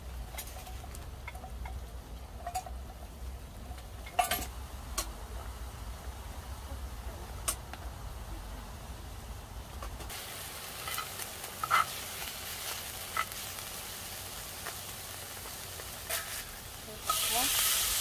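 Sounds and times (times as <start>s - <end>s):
meat sizzling on a grill: 0.0s - 8.2s, 10.0s - 18.0s.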